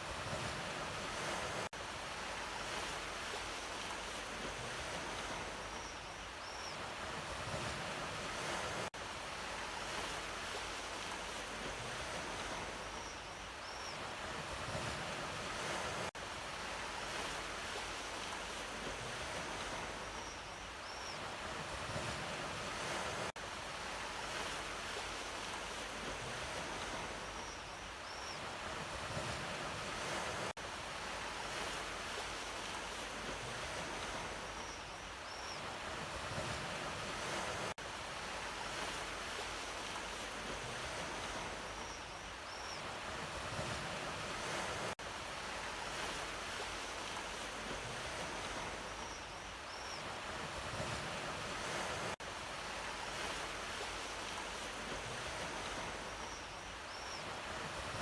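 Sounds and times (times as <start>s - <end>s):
sea waves washing on shore: 0.0s - 5.9s, 6.8s - 13.1s, 14.0s - 58.0s.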